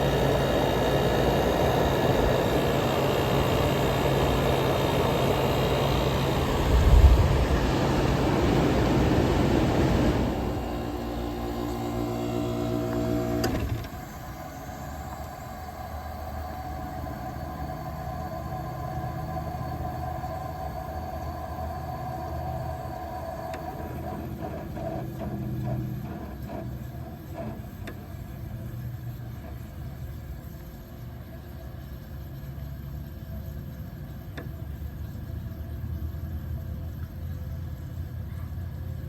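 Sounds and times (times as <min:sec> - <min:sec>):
air conditioner humming: 0:00.0 - 0:39.0.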